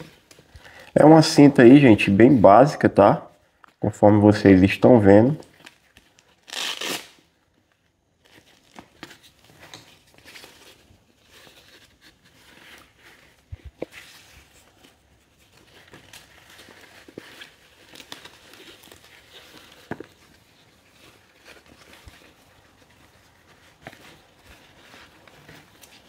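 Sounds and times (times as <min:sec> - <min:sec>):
fabric rustling: 0:00.0 - 0:02.6, 0:05.5 - 0:26.0.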